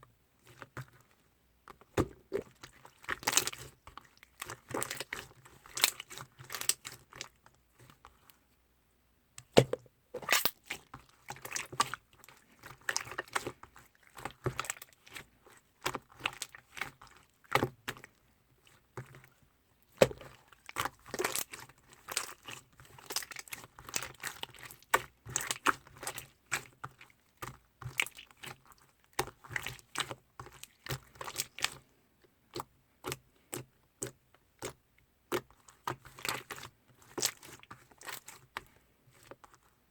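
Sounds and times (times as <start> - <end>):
slime squelching with sticky clicks: 0.4 - 8.4, 9.3 - 39.8.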